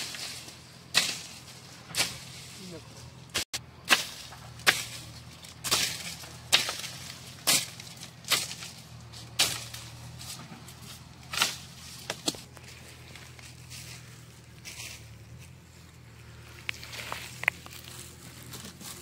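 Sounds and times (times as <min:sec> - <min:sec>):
branches struck swishing through leaves: 0:00.0 - 0:15.4.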